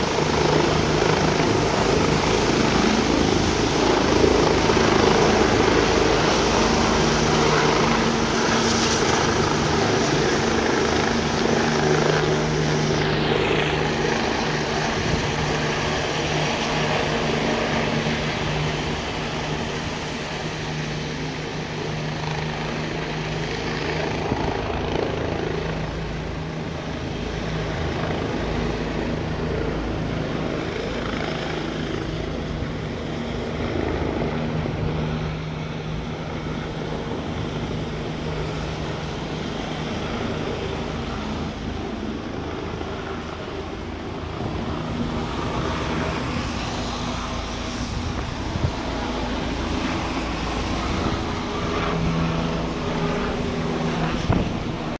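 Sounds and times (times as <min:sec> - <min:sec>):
helicopter rotor and turbine: 0:00.0 - 0:54.9.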